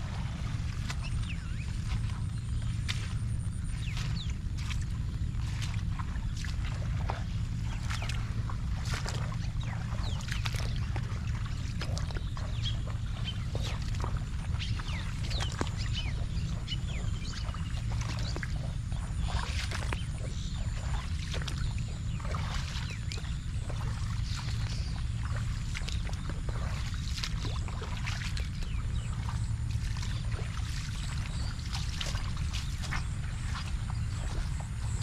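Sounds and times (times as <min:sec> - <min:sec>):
low rumble: 0:00.0 - 0:35.0.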